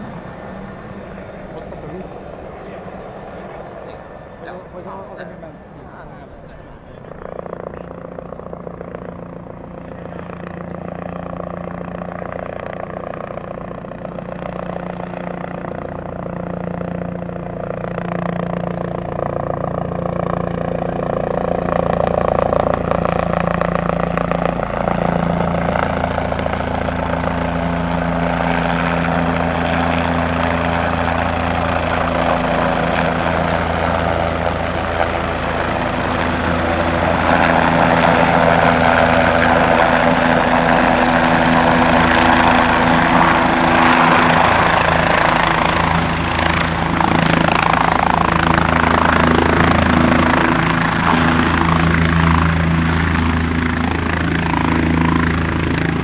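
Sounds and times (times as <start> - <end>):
helicopter rotor beating: 0.0 - 56.0
high turbine whine: 0.0 - 56.0.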